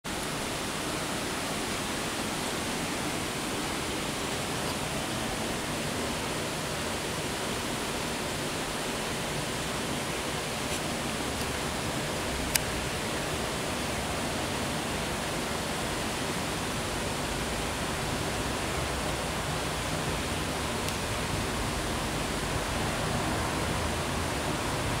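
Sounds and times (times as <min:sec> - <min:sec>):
running water rushing: 0:00.1 - 0:25.0.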